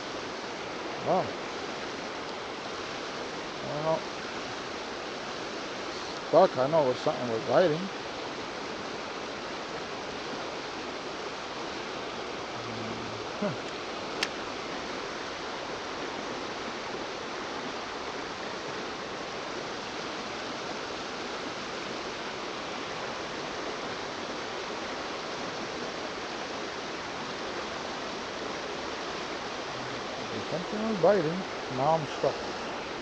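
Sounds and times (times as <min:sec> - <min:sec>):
river current rushing: 0:00.0 - 0:33.0.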